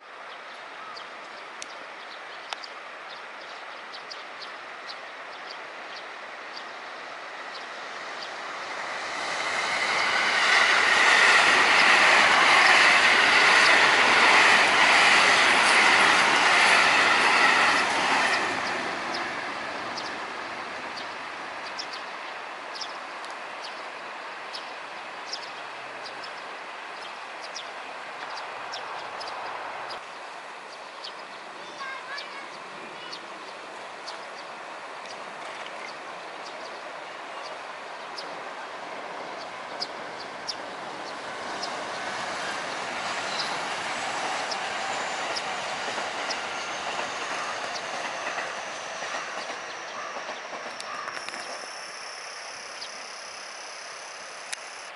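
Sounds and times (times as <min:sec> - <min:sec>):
train crossing bridge: 0:00.1 - 0:54.9.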